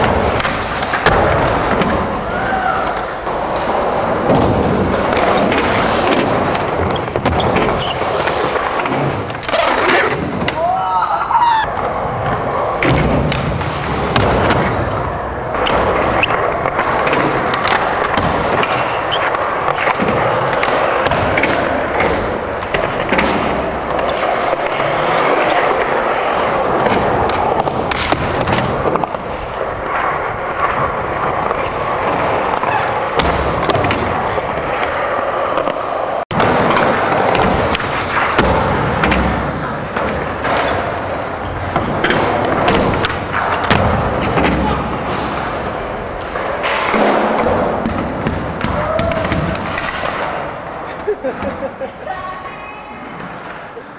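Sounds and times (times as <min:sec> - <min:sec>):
skateboard wheels rolling on concrete: 0:00.0 - 0:53.9.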